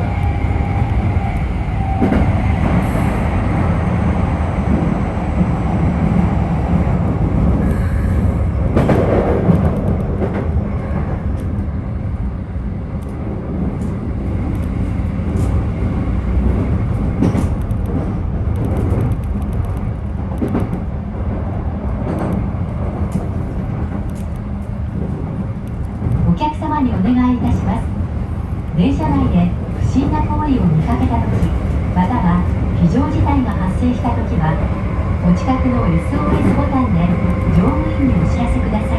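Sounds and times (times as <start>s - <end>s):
train low rumble: 0.0s - 38.9s.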